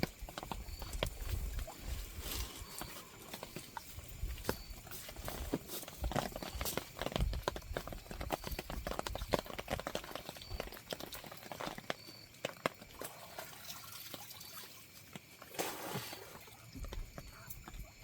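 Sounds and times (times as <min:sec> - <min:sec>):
raindrops tapping: 0:00.0 - 0:02.0, 0:02.6 - 0:15.6, 0:16.6 - 0:18.0
water dripping: 0:00.0 - 0:05.4, 0:06.1 - 0:18.0.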